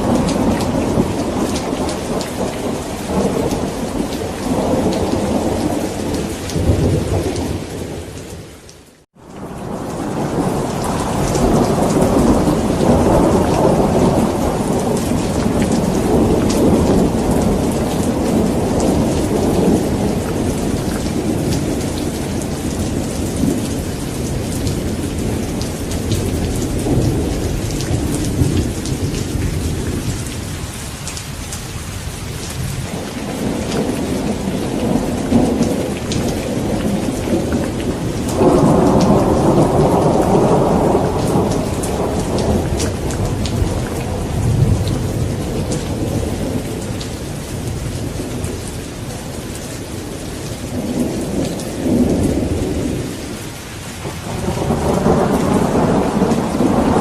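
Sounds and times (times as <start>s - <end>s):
rolling thunder: 0.0s - 8.5s, 9.3s - 30.7s, 32.2s - 53.4s, 54.0s - 57.0s
heavy rain: 0.0s - 57.0s.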